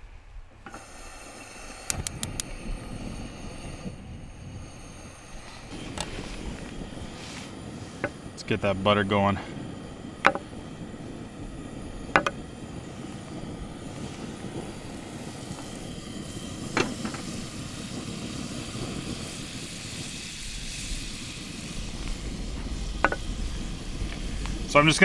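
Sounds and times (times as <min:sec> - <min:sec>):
butter sizzling: 0:00.6 - 0:25.0
camp stove burner running: 0:00.6 - 0:25.0.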